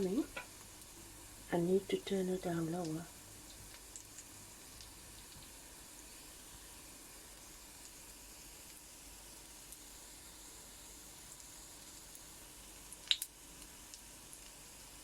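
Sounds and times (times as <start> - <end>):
batter sizzling in a frying pan: 0.0 - 15.0.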